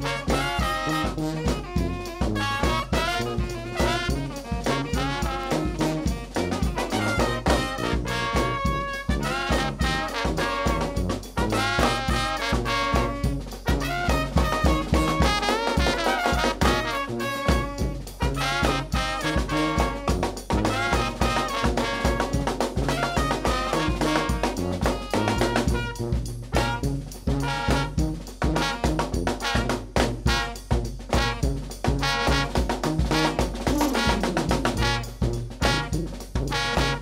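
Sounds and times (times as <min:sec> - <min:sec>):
sousaphone bass line: 0:00.0 - 0:29.6, 0:31.4 - 0:37.0
alto saxophone: 0:00.0 - 0:37.0
drums and cymbal beat: 0:00.0 - 0:37.0
trombone: 0:00.0 - 0:37.0
trumpet: 0:00.0 - 0:37.0.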